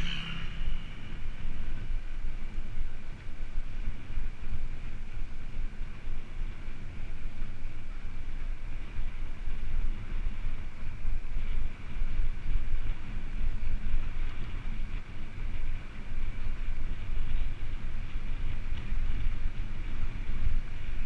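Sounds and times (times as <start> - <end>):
bicycle whir: 0.0 - 21.0
wind buffeting microphone: 0.0 - 21.0.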